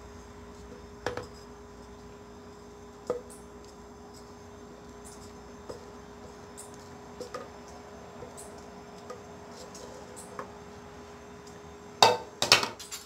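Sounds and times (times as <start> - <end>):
steady hum: 0.0 - 12.9.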